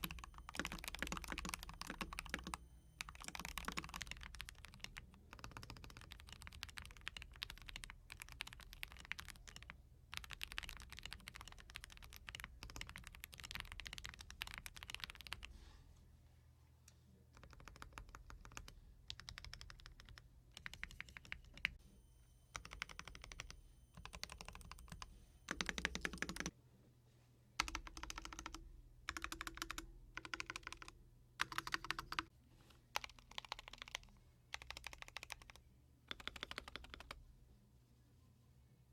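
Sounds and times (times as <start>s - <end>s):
mechanical keyboard typing: 0.0s - 15.5s, 17.4s - 21.8s, 22.5s - 26.5s, 27.6s - 32.3s, 33.0s - 37.2s.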